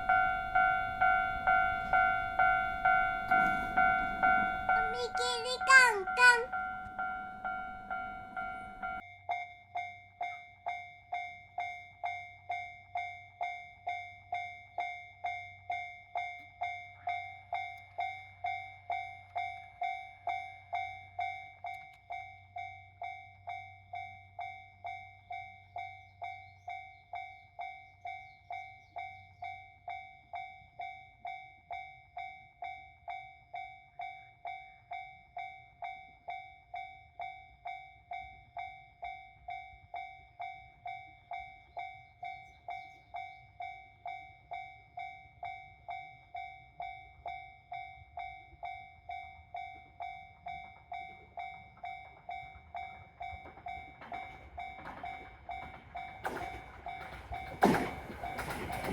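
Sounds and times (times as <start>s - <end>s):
railroad crossing bell ringing: 0.0s - 58.9s.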